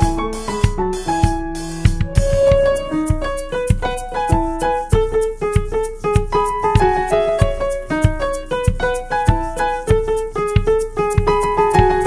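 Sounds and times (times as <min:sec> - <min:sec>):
keyboard melody over beat: 0:00.0 - 0:12.0.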